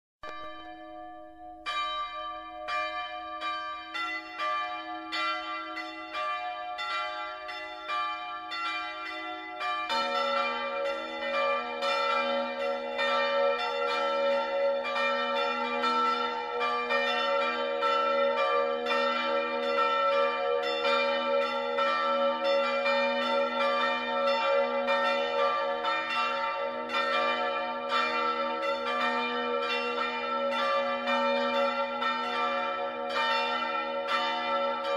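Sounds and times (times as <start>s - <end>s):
church bells pealing: 0.3s - 34.9s.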